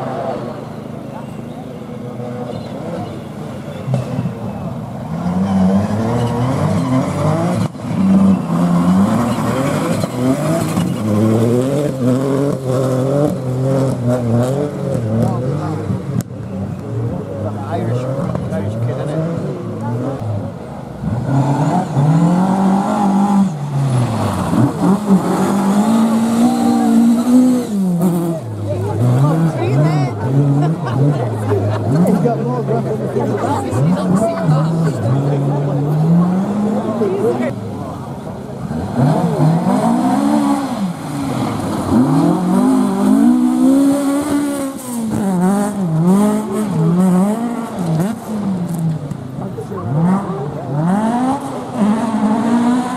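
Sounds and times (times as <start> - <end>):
car engine revving hard: 4.2 - 52.9.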